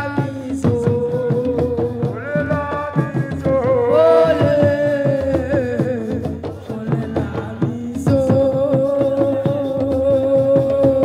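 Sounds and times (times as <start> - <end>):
fast drum beat: 0.0 - 11.0.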